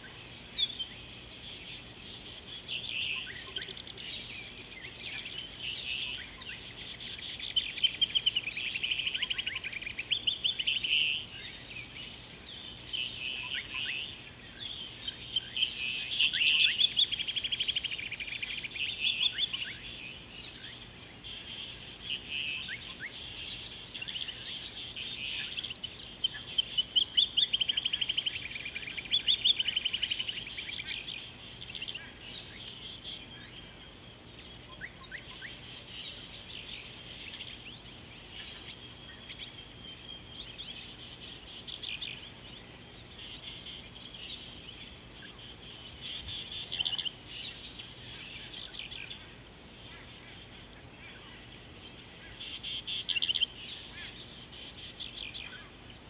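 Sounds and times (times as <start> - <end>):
birds chirping and whistling: 0.0 - 49.3, 49.9 - 55.8.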